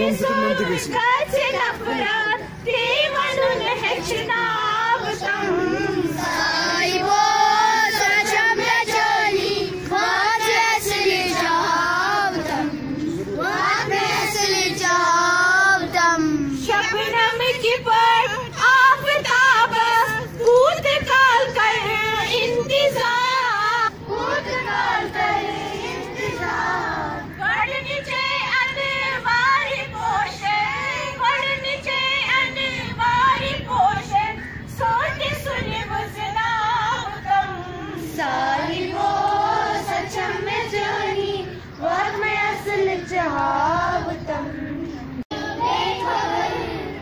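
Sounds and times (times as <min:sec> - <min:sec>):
children and women singing: 0:00.0 - 0:47.0.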